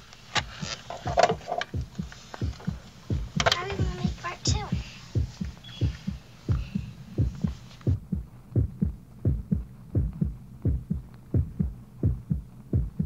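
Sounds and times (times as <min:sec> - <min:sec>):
steady low hum: 0:00.0 - 0:13.0
rapid low thumping: 0:00.4 - 0:13.0.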